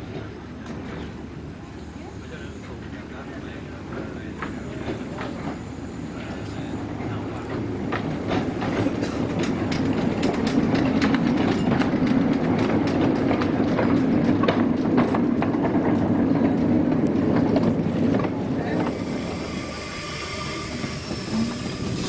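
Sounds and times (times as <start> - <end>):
train wheels rumbling and clicking: 0.0 - 22.0.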